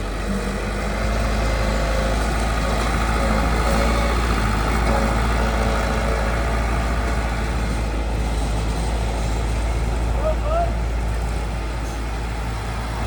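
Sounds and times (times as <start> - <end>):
diesel construction machinery running: 0.0 - 13.0.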